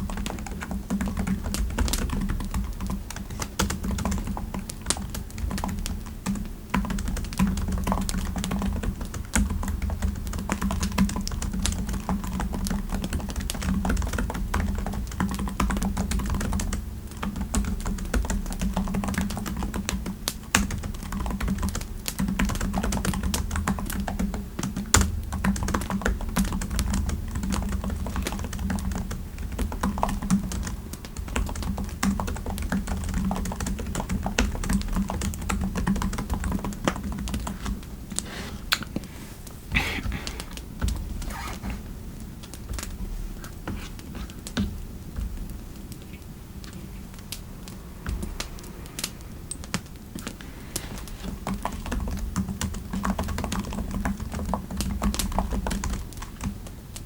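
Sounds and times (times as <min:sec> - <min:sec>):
typing on computer keyboard: 0:00.0 - 0:38.2, 0:46.6 - 0:57.0.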